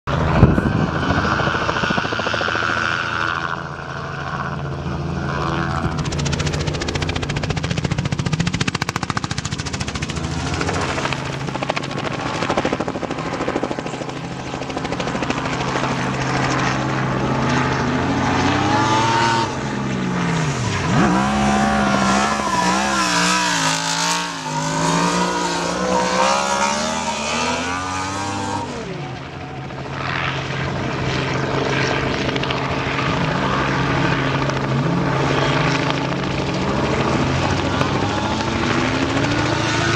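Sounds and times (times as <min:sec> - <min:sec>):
motorcycle and car engines revving: 0:00.0 - 0:39.9
helicopter rotor beat: 0:00.1 - 0:39.9.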